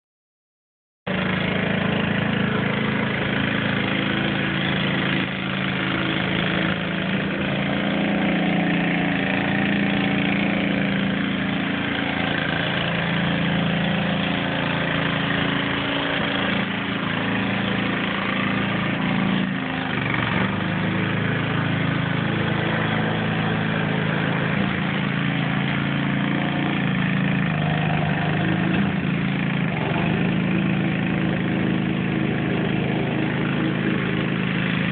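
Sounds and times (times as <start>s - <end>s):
lawn mower engine running: 1.1s - 34.9s.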